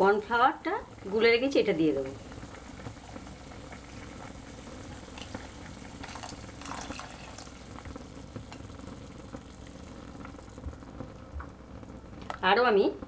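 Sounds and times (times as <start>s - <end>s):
soup bubbling in a pot: 0.0s - 12.4s.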